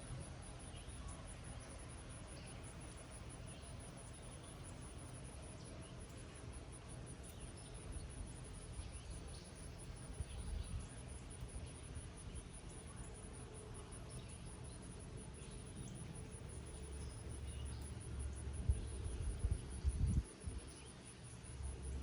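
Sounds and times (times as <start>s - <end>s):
insect trill: 0.1s - 22.0s.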